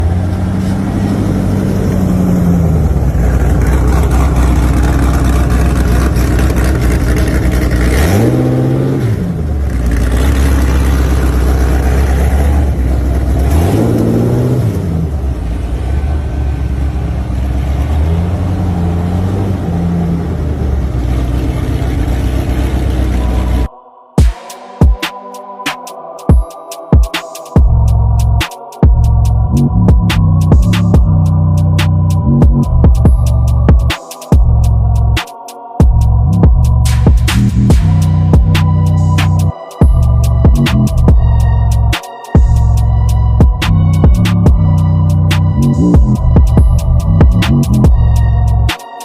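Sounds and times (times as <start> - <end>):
car engine idling and revving: 0.0 - 23.7, 27.0 - 49.0.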